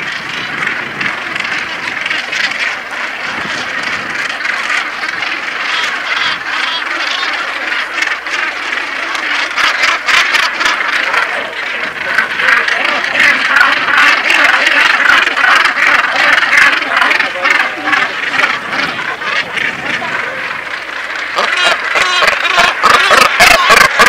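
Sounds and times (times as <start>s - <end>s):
seabird colony calling: 0.0s - 24.0s.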